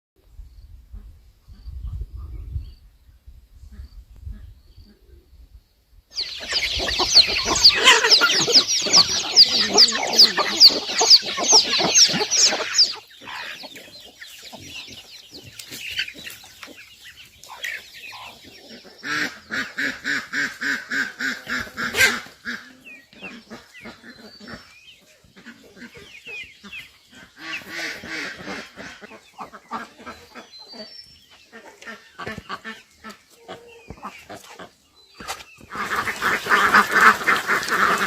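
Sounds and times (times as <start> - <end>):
fast repeated poultry calls: 6.1 - 38.0
poultry chirping chorus: 6.1 - 38.0
poultry clucking: 6.2 - 38.0.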